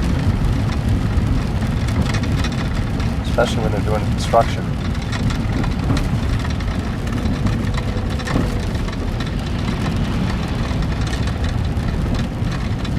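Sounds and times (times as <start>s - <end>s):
vehicle rumbling on wet gravel: 0.0s - 12.9s.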